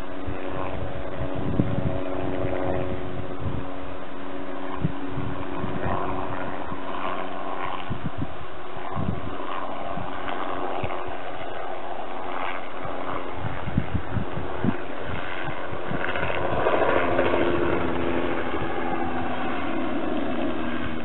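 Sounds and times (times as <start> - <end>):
helicopter engine and rotor: 0.0 - 21.0
wind buffeting microphone: 0.0 - 21.0.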